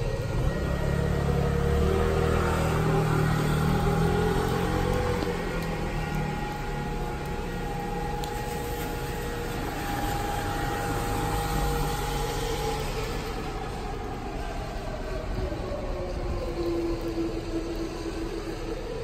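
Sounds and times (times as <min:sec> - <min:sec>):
air-raid siren wailing: 0:00.0 - 0:19.0
rain on stone paving: 0:00.0 - 0:19.0.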